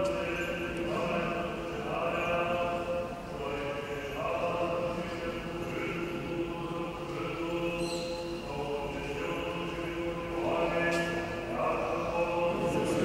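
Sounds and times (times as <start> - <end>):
voices chanting a slow hymn: 0.0 - 13.0.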